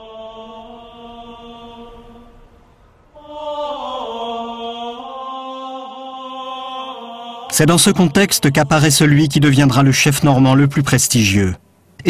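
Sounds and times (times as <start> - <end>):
slow sung chant: 0.0 - 9.9.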